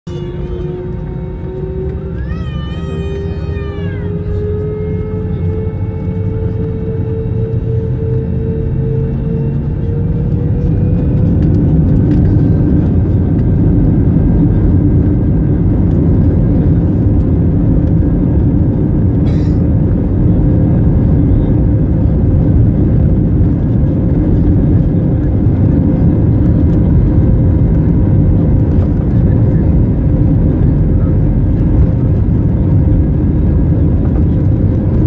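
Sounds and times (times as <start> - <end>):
jet engines rumbling in cabin: 0.1 - 35.0.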